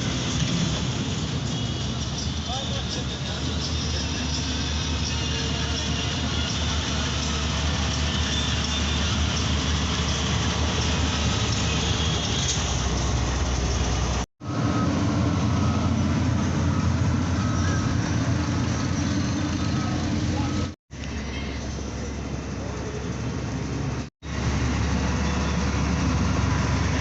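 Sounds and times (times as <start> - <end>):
deep loud engine rumble: 0.0 - 27.0
heavy vehicle engines rumbling: 0.0 - 27.0.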